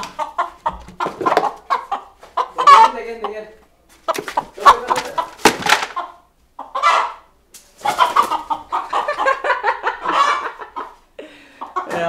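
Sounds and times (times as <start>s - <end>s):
chicken squawking and clucking: 0.0s - 12.0s.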